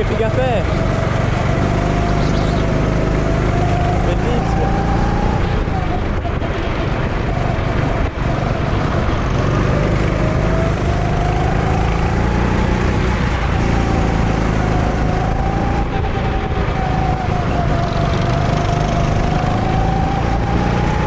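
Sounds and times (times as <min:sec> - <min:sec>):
go-kart engine running: 0:00.0 - 0:21.0.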